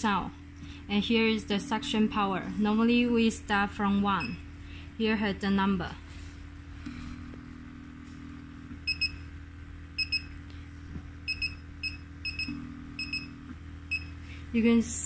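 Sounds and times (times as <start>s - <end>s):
vacuum pump humming: 0.0s - 15.0s
higher hum: 0.3s - 15.0s.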